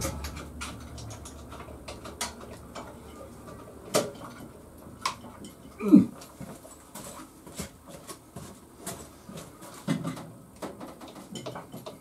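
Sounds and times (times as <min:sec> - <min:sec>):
tools and parts clicking and knocking: 0:00.0 - 0:08.2, 0:08.8 - 0:12.0.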